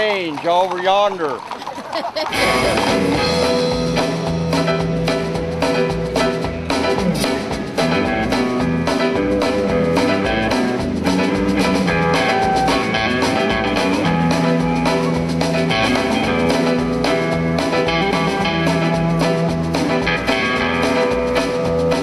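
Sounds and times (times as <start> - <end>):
blues guitar tune: 2.3 - 22.0
drum kit beat: 2.3 - 22.0.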